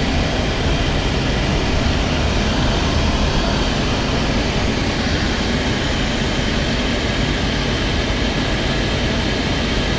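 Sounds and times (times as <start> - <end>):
vehicle driving rumble: 0.0 - 9.8.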